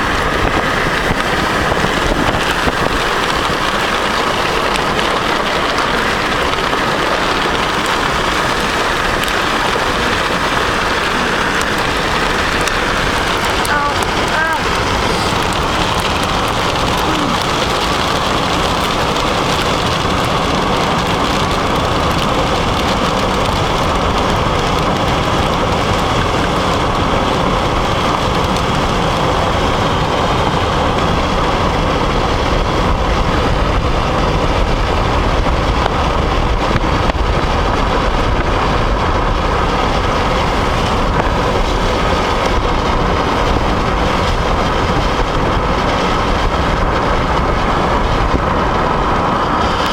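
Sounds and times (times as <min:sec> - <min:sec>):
car road noise: 0:00.0 - 0:49.9.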